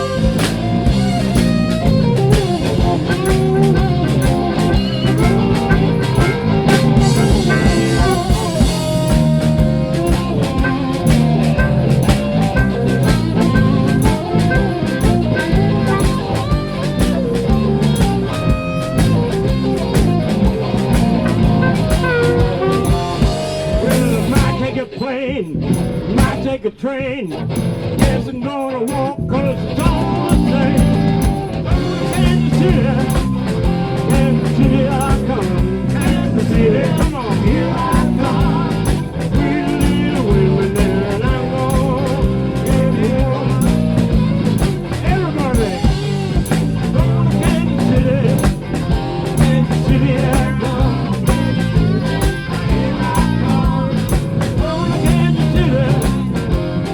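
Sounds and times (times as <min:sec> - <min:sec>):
blues-rock band playing: 0:00.0 - 0:26.6, 0:27.3 - 0:56.9.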